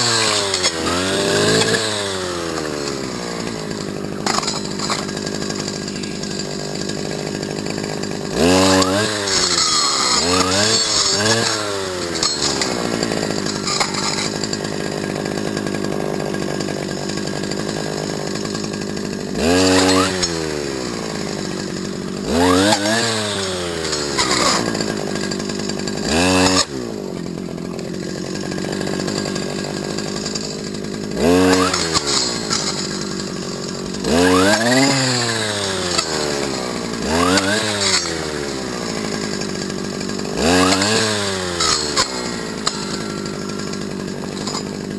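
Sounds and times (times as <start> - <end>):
brushcutter engine idling and revving: 0.0 - 44.9.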